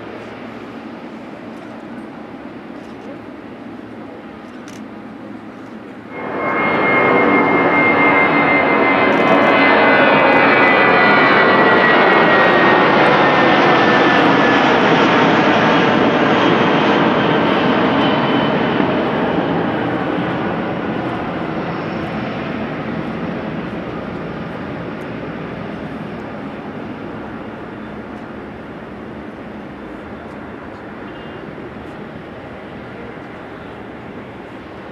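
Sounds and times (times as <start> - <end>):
jet engines whining and rushing: 0.0 - 34.9.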